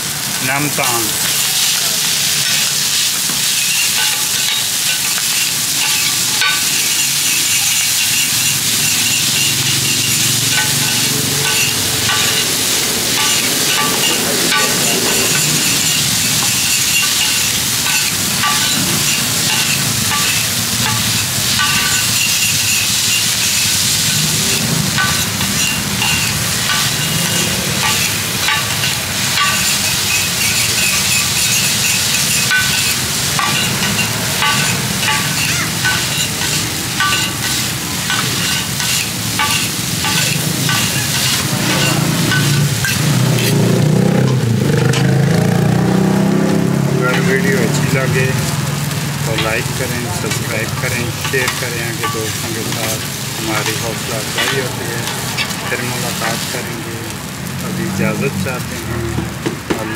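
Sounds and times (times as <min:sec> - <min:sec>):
noodles sizzling on griddle: 0:00.0 - 0:59.9
metal spatula scraping pan: 0:00.8 - 0:45.2, 0:46.3 - 0:48.6, 0:49.2 - 0:56.8.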